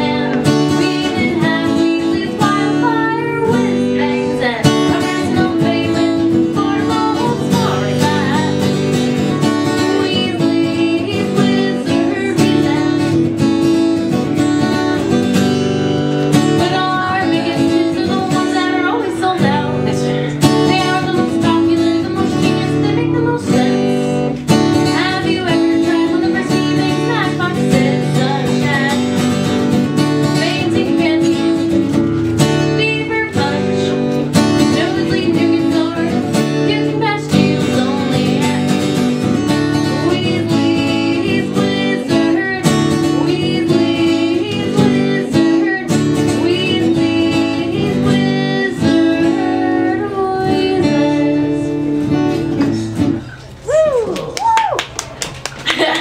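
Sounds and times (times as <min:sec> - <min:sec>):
strummed acoustic guitar: 0:00.0 - 0:53.6.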